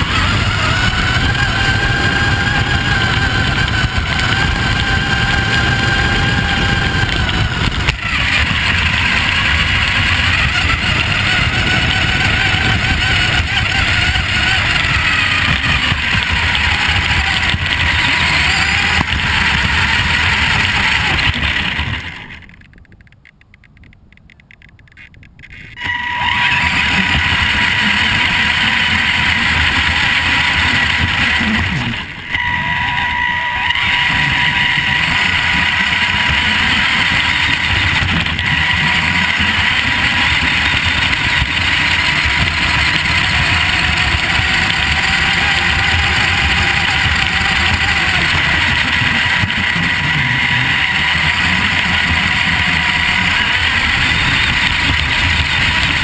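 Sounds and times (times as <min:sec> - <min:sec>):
rc car electric motor whine: 0:00.0 - 0:22.7, 0:25.4 - 0:56.0.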